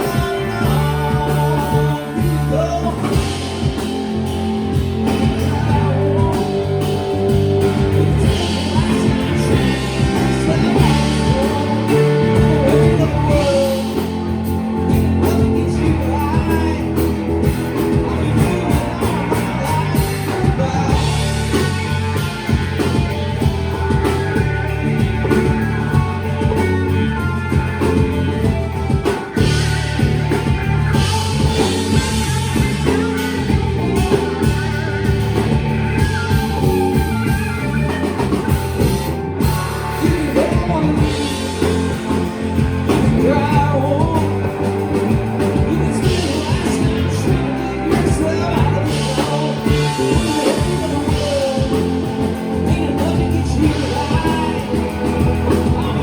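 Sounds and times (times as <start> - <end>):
person singing: 0.0 - 35.2, 39.6 - 56.0
live rock band: 0.0 - 56.0.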